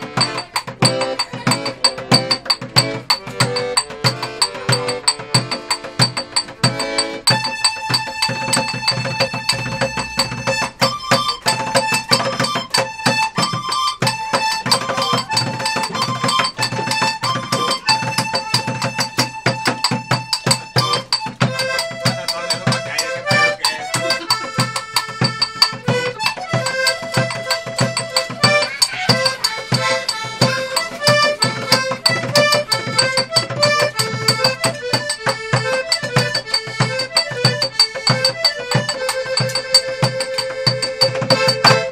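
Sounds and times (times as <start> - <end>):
button accordion folk melody: 0.0 - 41.9
hand drumming on plastic bucket: 0.0 - 41.9.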